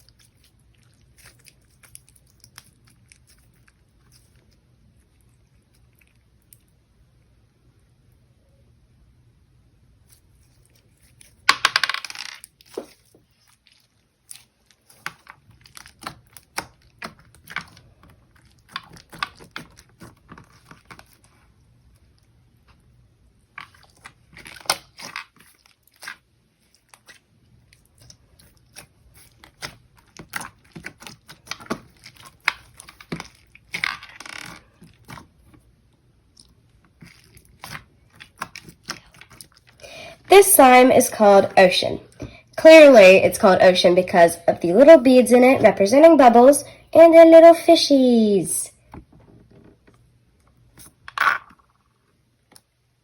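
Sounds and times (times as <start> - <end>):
crackling slime squelches: 0.0 - 7.8, 9.9 - 11.5, 12.4 - 48.0.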